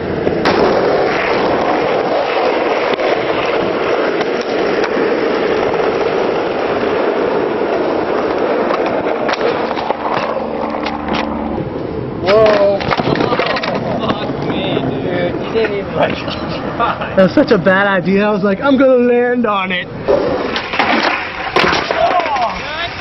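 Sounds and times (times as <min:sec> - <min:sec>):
skateboard clacking on ground: 0:00.0 - 0:16.7, 0:20.0 - 0:23.0
skateboard wheels on asphalt: 0:00.0 - 0:23.0.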